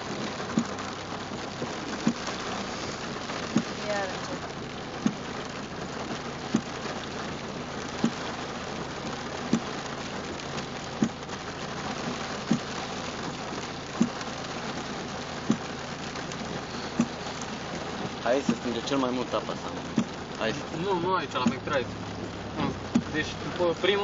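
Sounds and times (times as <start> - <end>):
rain drumming on car roof: 0.0 - 24.0
windscreen wipers thunking: 0.0 - 24.0.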